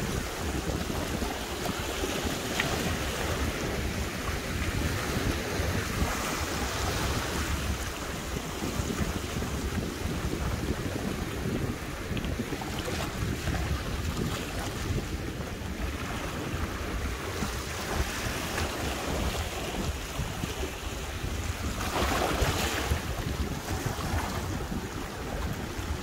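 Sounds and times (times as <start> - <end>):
sea waves washing against rocks: 0.0 - 26.0
wind buffeting microphone: 0.0 - 26.0.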